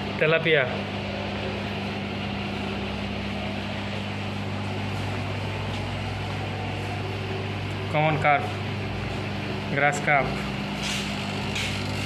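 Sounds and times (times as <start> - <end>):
aquarium pumps humming: 0.0 - 12.0.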